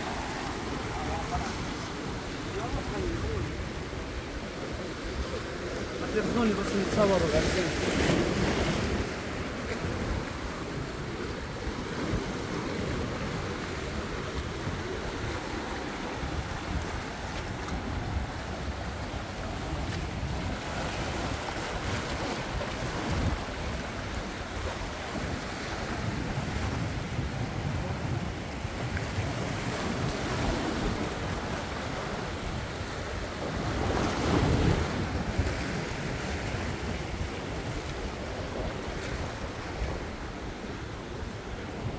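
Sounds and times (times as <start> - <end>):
sea waves washing in: 0.0 - 41.9
wind buffeting microphone: 8.1 - 41.9.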